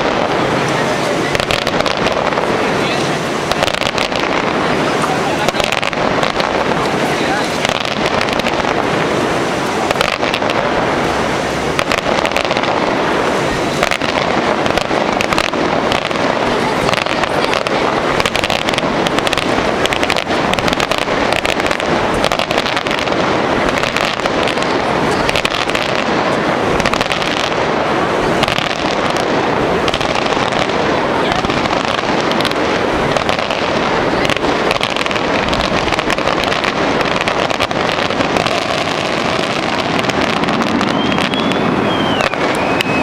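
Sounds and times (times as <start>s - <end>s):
fireworks crackling: 0.0s - 43.0s.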